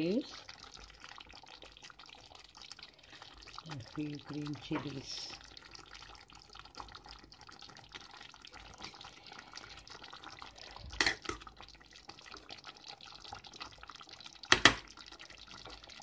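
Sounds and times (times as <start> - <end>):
gravy bubbling in a pan: 0.0 - 16.0.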